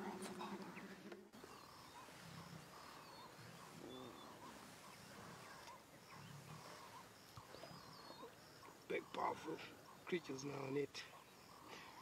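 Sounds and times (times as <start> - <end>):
lionesses growling low: 0.0 - 10.1.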